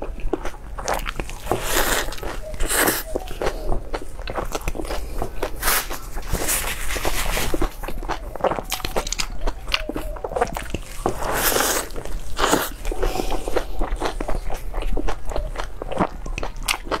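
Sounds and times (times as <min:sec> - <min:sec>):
person chewing with crunches: 0:00.0 - 0:17.0.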